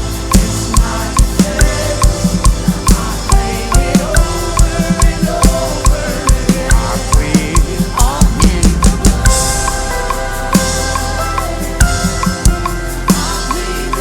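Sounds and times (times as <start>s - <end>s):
band music with melodic lines: 0.0s - 14.0s
drum kit playing a steady beat: 0.0s - 14.0s.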